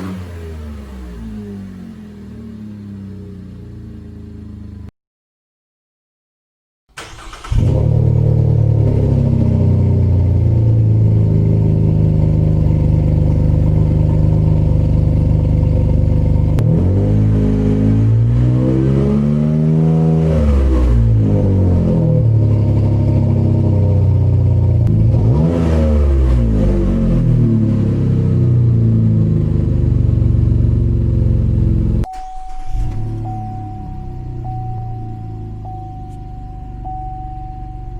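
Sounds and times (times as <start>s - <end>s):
car engine idling and revving: 0.0s - 4.9s, 7.0s - 37.9s.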